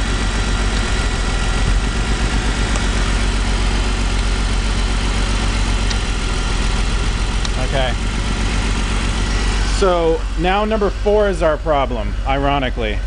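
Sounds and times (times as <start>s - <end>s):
car engine idling with misfire: 0.0s - 13.0s.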